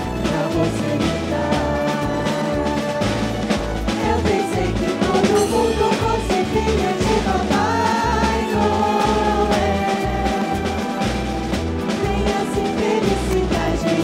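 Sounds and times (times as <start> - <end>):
person singing: 0.0 - 11.2, 12.0 - 14.0
drum and bass beat: 0.0 - 14.0.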